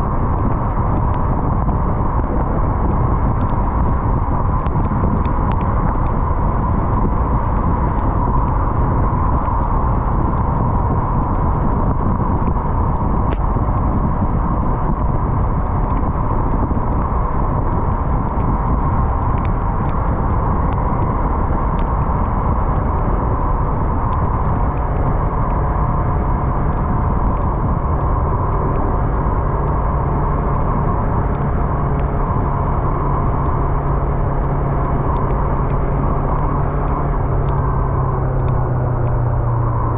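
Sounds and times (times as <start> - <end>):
low engine hum: 0.0 - 39.9
riding wind rush: 0.0 - 39.9.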